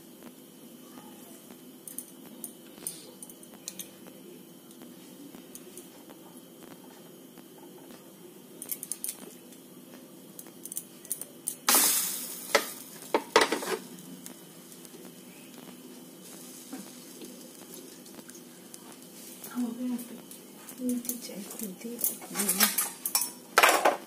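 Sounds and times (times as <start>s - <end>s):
dough sizzling on hot pan: 0.0s - 24.0s
steady low hum: 0.0s - 24.0s.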